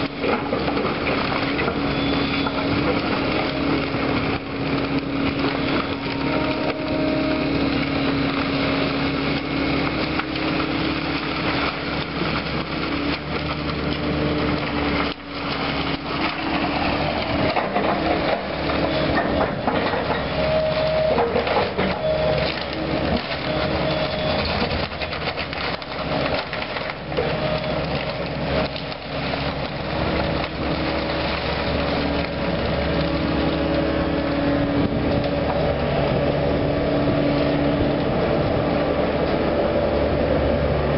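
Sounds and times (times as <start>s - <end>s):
demolition machine engine: 0.0s - 40.9s
wood cracking and splintering: 0.0s - 40.9s.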